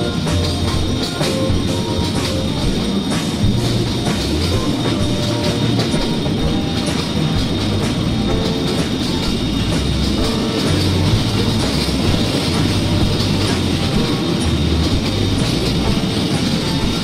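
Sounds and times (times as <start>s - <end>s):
background music with steady beat: 0.0s - 17.0s
train wheels clacking on rail joints: 0.0s - 17.0s.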